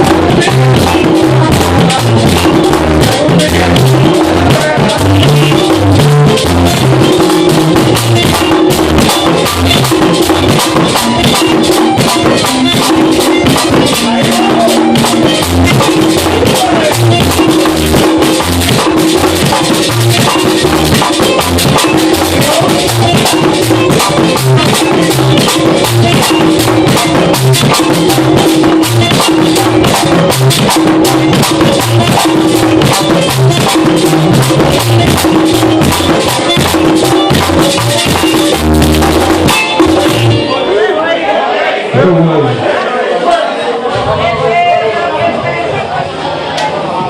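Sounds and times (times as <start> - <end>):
drum: 0.0 - 40.5
electric bass: 0.0 - 40.5
scraper beat: 0.0 - 40.5
accordion melody: 0.0 - 41.1.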